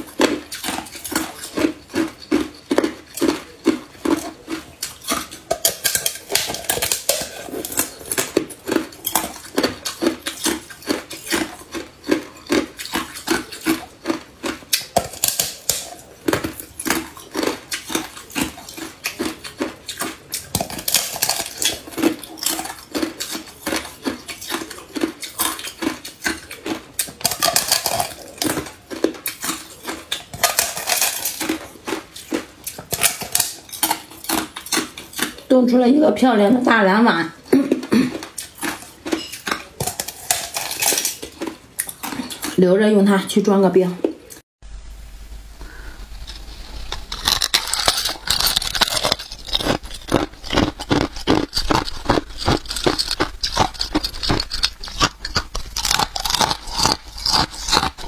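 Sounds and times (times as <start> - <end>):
ice crunching while chewed: 0.0 - 35.6, 37.4 - 42.6, 46.2 - 58.0.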